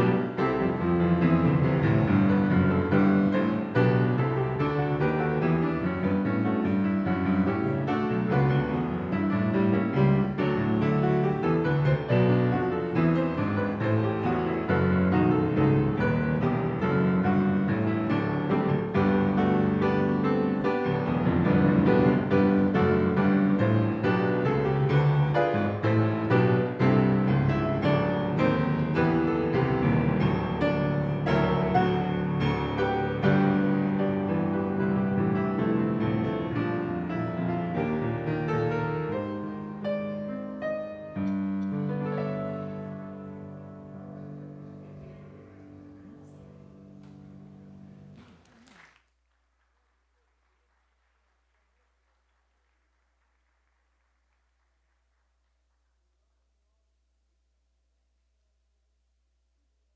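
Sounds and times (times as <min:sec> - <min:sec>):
piano music: 0:00.0 - 0:48.4.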